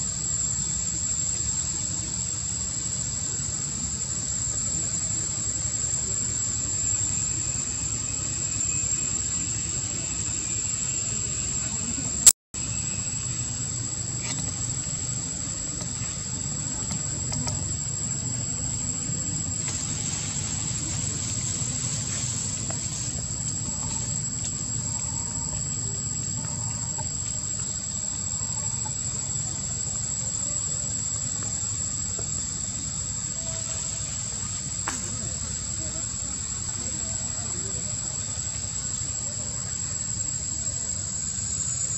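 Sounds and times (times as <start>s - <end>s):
insects droning: 0.0s - 41.9s
low steady rumble: 0.6s - 41.9s.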